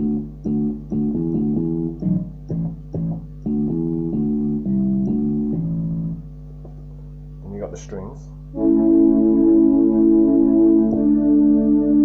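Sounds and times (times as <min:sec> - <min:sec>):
keyboard slap bass notes: 0:00.0 - 0:06.8, 0:08.5 - 0:12.0.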